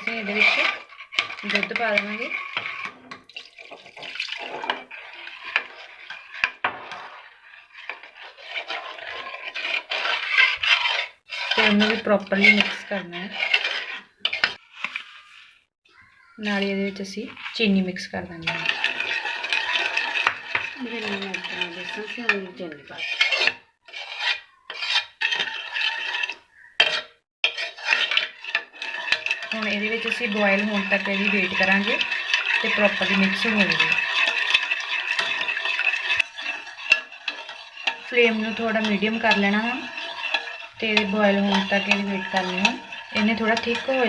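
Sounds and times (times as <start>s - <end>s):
spoon stirring in metal pot: 0.0s - 44.0s.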